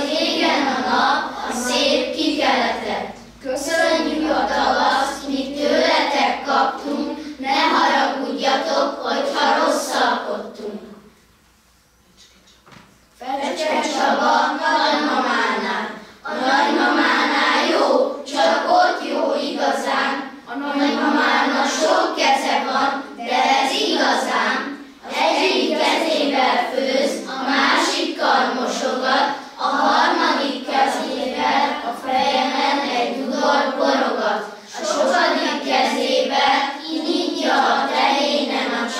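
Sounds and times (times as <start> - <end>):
children's choir singing: 0.0 - 11.0, 13.2 - 38.9.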